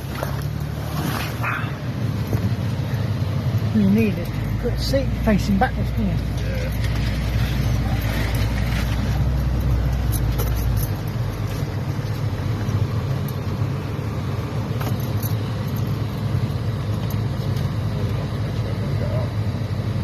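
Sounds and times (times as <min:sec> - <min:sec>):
deep rumble: 0:00.0 - 0:20.0
vehicle engine running: 0:00.0 - 0:20.0.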